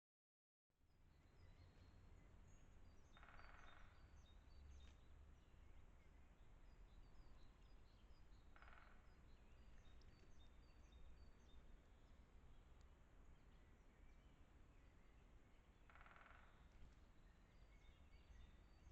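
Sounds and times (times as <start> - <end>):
small birds chirping: 1.3 - 18.9.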